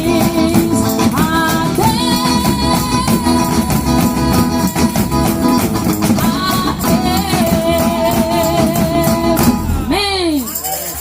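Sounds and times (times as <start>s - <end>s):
band rhythmic accompaniment: 0.0s - 11.0s.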